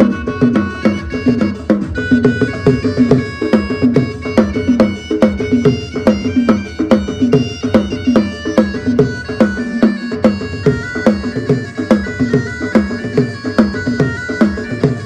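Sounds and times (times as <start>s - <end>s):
fast steady drum beat: 0.0s - 15.0s
reedy keyboard melody: 0.0s - 15.0s.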